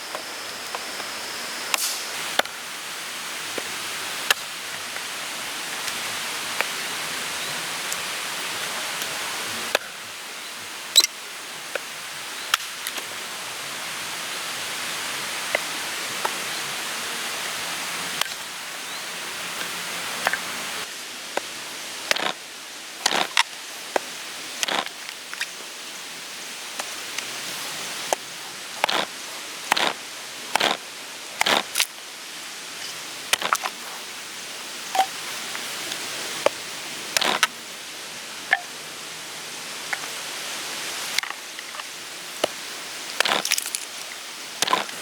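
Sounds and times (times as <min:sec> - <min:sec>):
rain hiss: 0:00.0 - 0:45.0.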